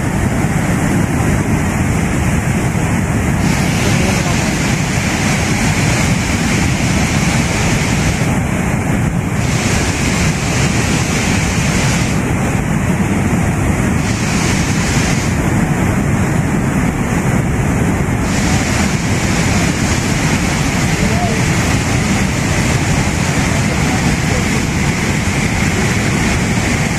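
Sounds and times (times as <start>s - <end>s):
rushing flood water: 0.0s - 26.9s.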